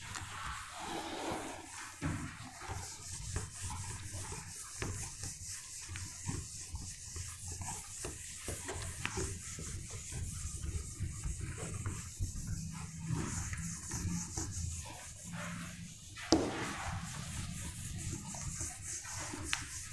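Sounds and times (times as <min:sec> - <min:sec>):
duster wiping whiteboard: 0:00.0 - 0:19.9.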